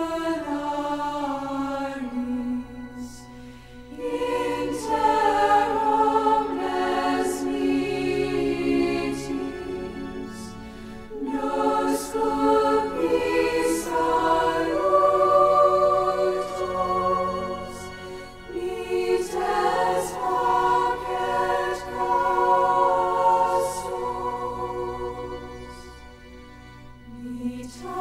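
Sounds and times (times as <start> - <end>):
choir singing slowly: 0.0 - 28.0.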